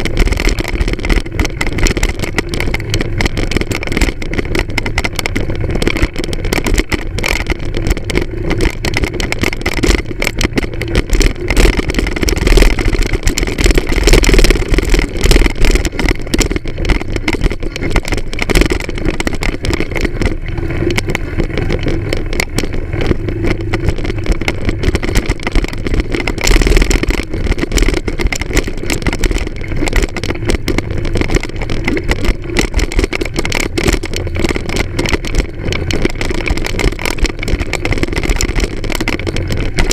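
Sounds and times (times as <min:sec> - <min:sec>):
clatter from rough ground: 0:00.0 - 0:39.9
low rumble: 0:00.0 - 0:39.9
moped engine running: 0:00.0 - 0:39.9.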